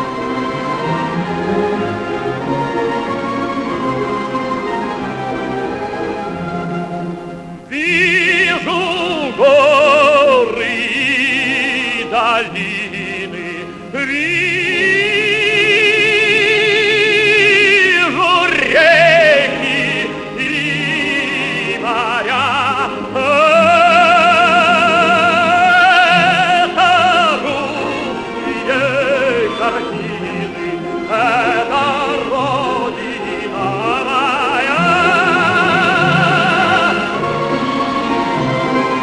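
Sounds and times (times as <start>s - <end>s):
musical accompaniment: 0.0s - 39.0s
operatic tenor singing: 0.0s - 39.0s.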